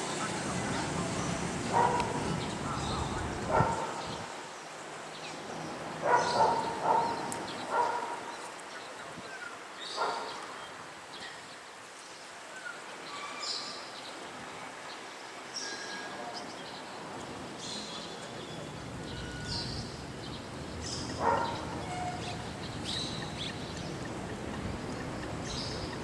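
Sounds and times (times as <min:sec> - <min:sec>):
birds chirping: 0:00.0 - 0:11.7, 0:12.6 - 0:26.0
steady background hiss: 0:00.0 - 0:26.0.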